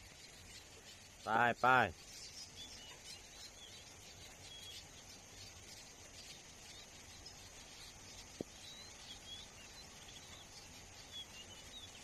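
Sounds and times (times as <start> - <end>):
small birds chirping: 0.0 - 12.0
steady high hiss: 0.0 - 12.0.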